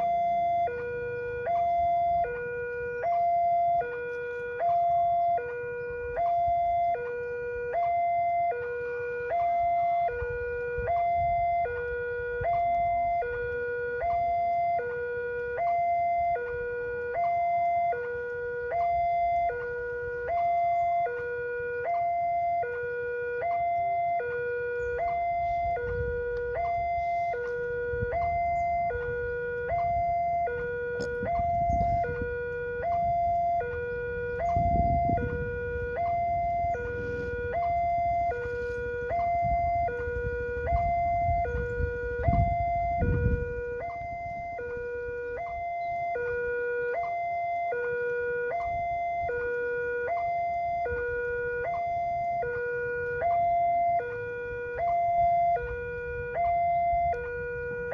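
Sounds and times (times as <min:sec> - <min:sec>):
motorcycle engines rumbling: 0:00.0 - 0:47.7
two-tone crossing alarm: 0:00.0 - 0:57.9.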